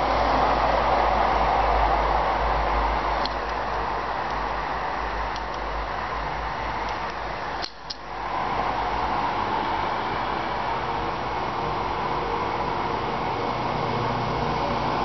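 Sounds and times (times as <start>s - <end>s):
steady noisy hiss: 0.0s - 15.0s.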